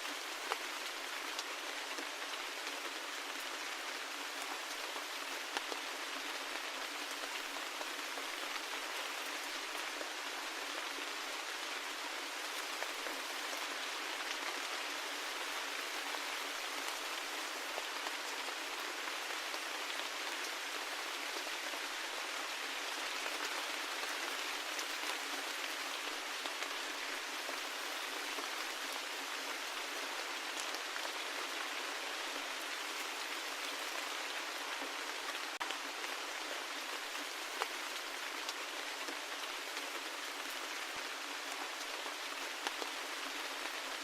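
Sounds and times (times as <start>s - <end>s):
rain falling with drop ticks: 0.0s - 44.0s.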